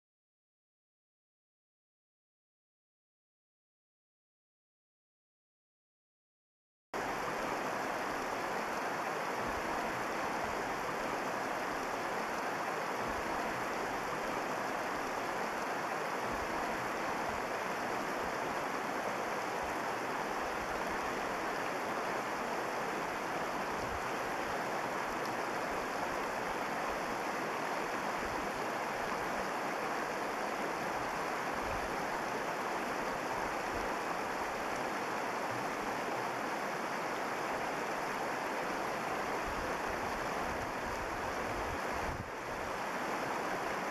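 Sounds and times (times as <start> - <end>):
river water rushing over rocks: 7.0 - 43.9.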